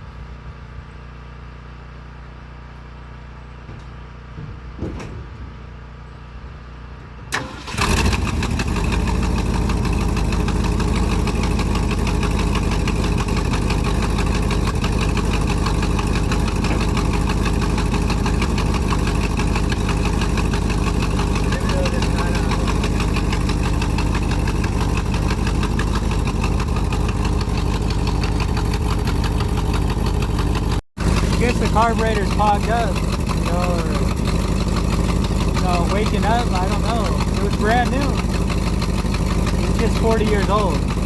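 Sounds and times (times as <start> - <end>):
engine humming: 6.9 - 41.0
engine running loud: 7.3 - 41.0.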